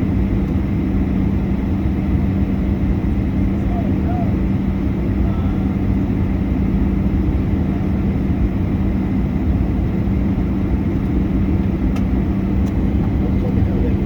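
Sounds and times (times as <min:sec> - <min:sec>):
airliner cabin rumble: 0:00.0 - 0:14.0
constant hum: 0:00.0 - 0:14.0.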